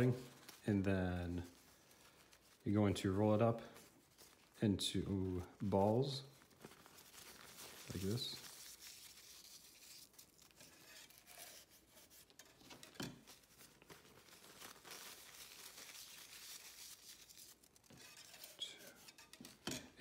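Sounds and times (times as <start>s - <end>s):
tissue crinkling and rustling: 0.0s - 20.0s.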